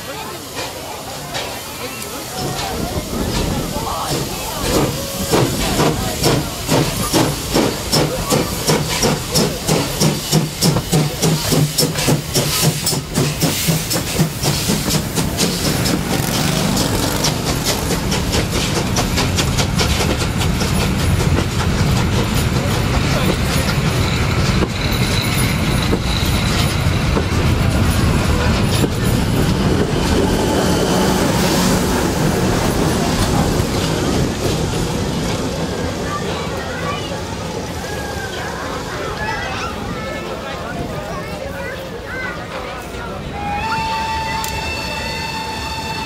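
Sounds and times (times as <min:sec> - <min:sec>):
carriages rumbling and wheel clatter: 0:00.0 - 0:46.0
steam locomotive exhaust chuffs: 0:00.3 - 0:39.9.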